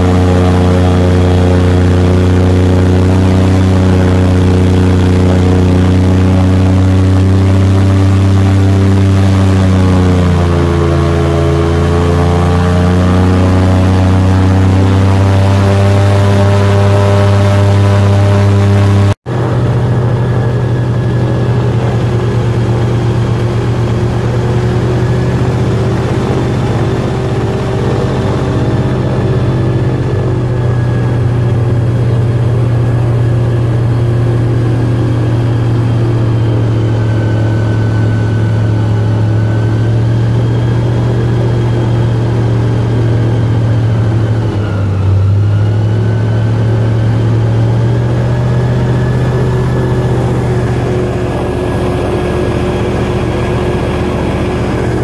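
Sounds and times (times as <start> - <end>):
airboat engine and propeller: 0.0 - 55.0.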